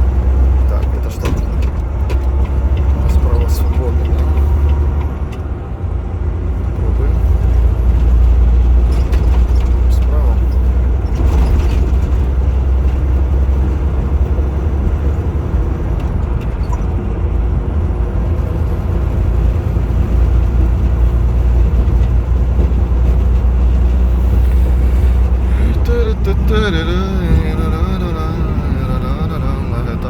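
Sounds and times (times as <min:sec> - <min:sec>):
road noise: 0:00.0 - 0:30.0
truck engine rumble: 0:00.0 - 0:30.0.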